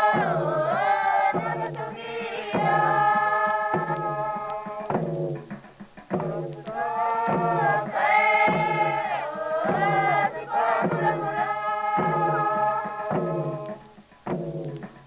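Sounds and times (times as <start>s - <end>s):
men chanting: 0.0s - 5.1s, 6.2s - 14.0s.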